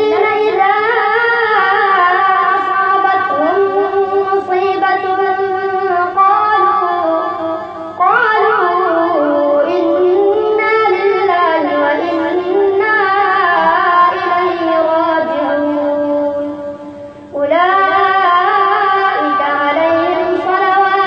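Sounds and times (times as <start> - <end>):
boy reciting in melodic chant: 0.0 - 21.0.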